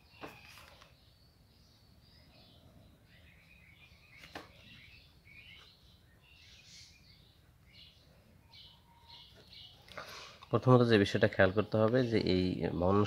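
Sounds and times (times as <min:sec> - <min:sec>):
faint bird chirps: 0:00.0 - 0:12.9.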